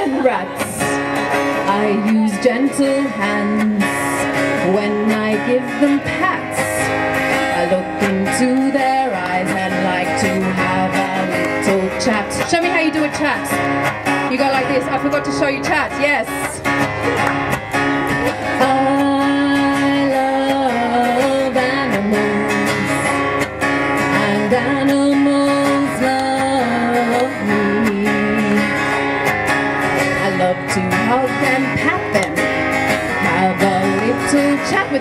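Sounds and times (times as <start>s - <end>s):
acoustic guitar strumming: 0.0s - 35.0s
woman singing: 1.6s - 13.6s, 14.3s - 16.7s, 18.3s - 23.4s, 24.0s - 29.0s, 30.1s - 35.0s.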